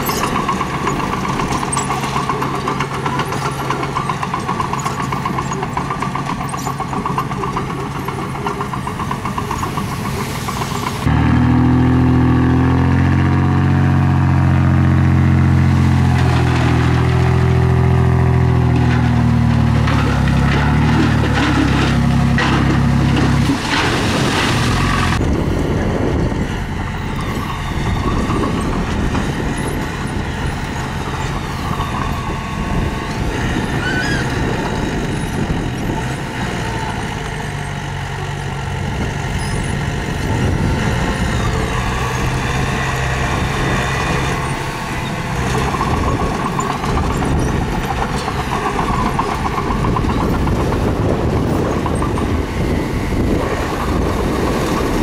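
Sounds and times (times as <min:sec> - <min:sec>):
diesel engine working under load: 0:00.0 - 0:55.0.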